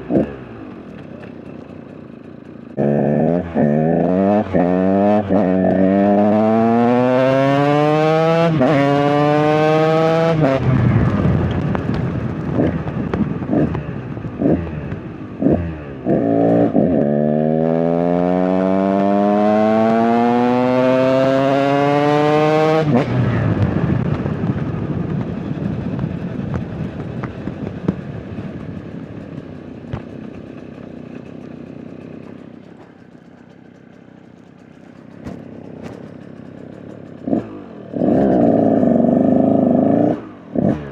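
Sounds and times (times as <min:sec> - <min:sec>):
two-stroke dirt bike revving: 0:00.0 - 0:40.9.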